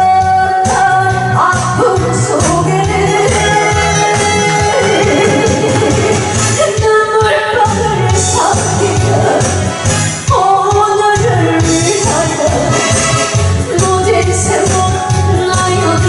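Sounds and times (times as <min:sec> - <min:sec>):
person singing: 0:00.0 - 0:09.6, 0:10.3 - 0:13.0, 0:13.6 - 0:16.0
steady drum beat: 0:00.7 - 0:07.0, 0:07.6 - 0:16.0.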